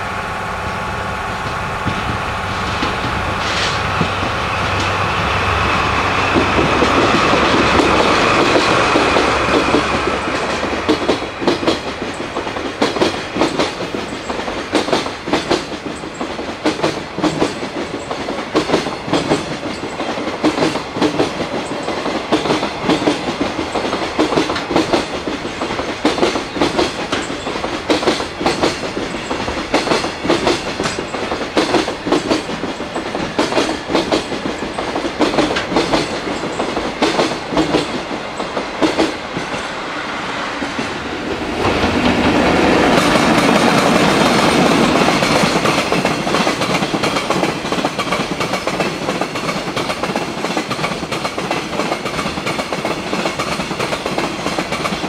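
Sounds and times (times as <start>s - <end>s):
rumble of wheels on rail: 0.0s - 55.0s
train wheels clickety-clack: 1.3s - 55.0s.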